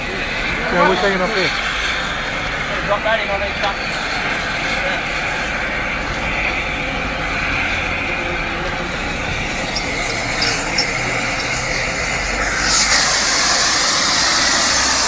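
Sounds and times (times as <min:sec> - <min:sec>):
rumble of trackside work: 0:00.0 - 0:15.0
loud hiss: 0:00.1 - 0:15.0.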